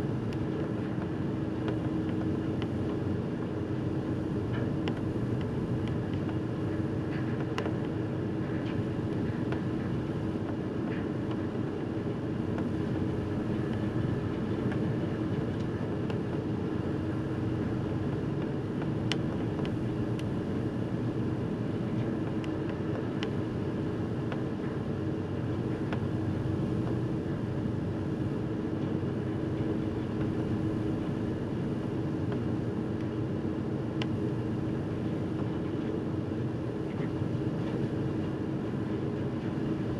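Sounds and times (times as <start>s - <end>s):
constant drone: 0.0s - 39.9s
wind: 0.0s - 39.9s.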